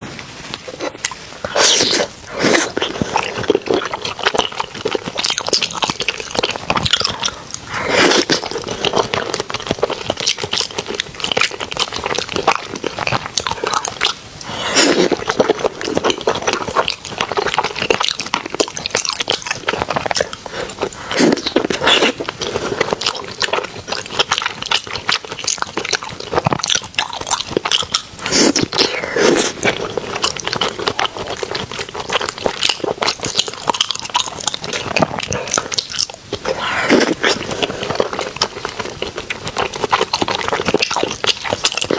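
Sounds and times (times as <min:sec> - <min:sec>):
person chewing crunchy food: 0:00.0 - 0:41.9.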